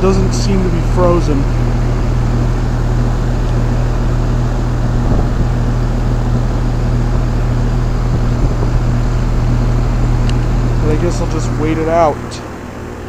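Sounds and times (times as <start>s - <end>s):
compressor low hum: 0.0s - 13.0s
fan whoosh: 0.0s - 13.0s.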